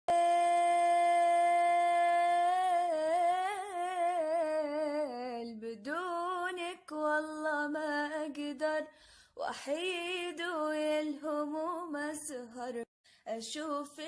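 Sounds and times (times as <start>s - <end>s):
woman singing without words: 0.1s - 14.0s.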